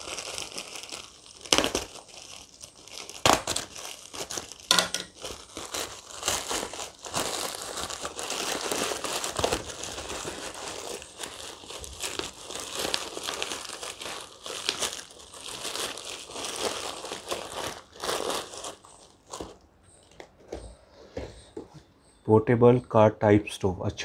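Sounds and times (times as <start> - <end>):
plastic bag crinkling and tearing: 0.0 - 19.6.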